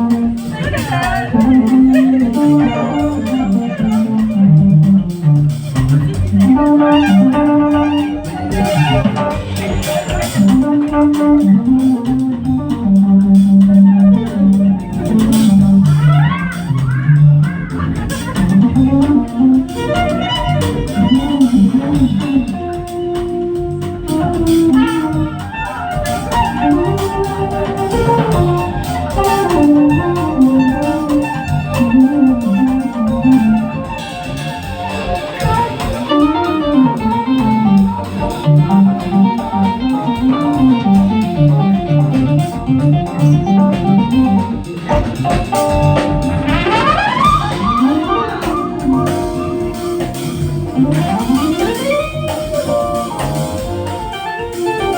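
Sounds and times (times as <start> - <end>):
instrumental jazz band: 0.0 - 54.9
pulsing bass: 0.0 - 54.9.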